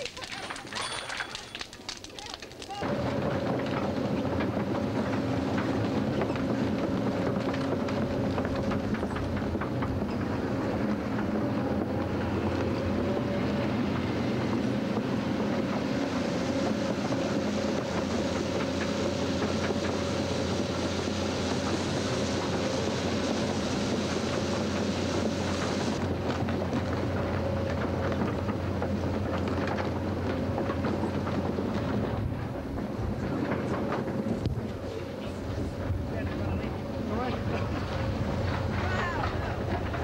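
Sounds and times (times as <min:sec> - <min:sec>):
crawler tracks clanking: 0:00.0 - 0:40.0
excavator diesel engine: 0:00.0 - 0:40.0.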